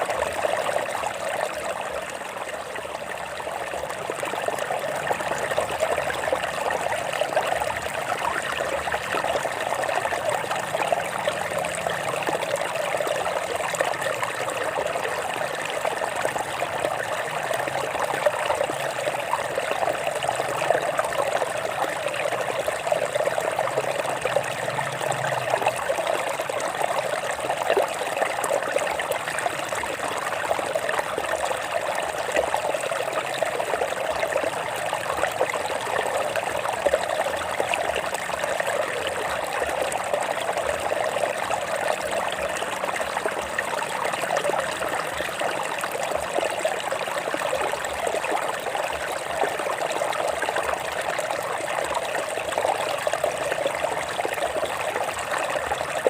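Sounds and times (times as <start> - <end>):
stream water over rocks: 0.0 - 56.0.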